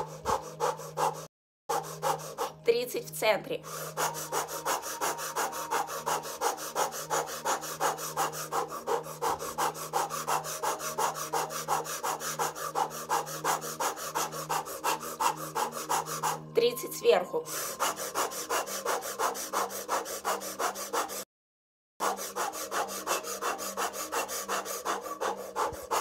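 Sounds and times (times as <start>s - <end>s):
woman breathing rapidly: 0.0s - 3.0s, 3.6s - 16.6s, 17.3s - 21.3s, 22.0s - 26.0s.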